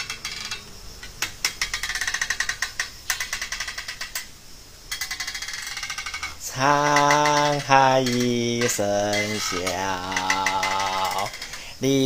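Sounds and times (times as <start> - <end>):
door creaking on hinges: 0.0 - 12.0.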